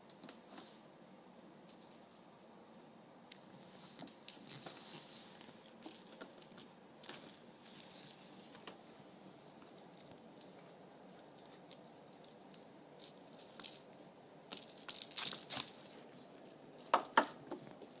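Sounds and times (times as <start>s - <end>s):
kitten rustling and scraping: 3.5s - 18.0s.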